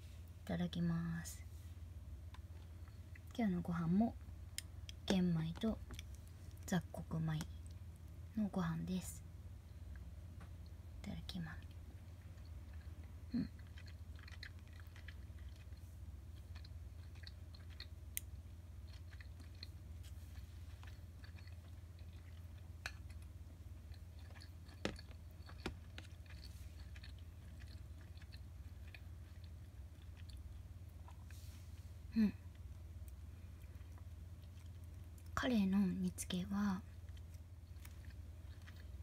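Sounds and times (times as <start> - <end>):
steady low hum: 0.0 - 39.0
close-up chewing: 2.2 - 3.4, 4.1 - 8.2, 9.7 - 35.4, 36.8 - 39.0.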